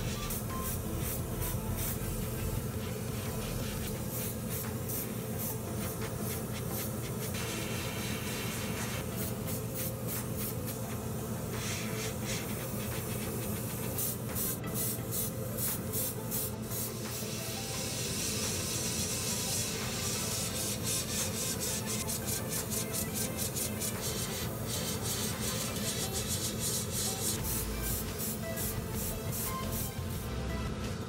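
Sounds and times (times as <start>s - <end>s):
airbrush spraying hiss: 0.0s - 30.4s.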